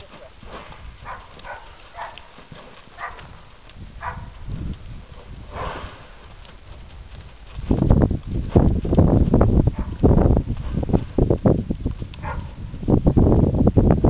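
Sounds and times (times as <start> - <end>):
hoofbeats on sand: 0.0 - 14.0.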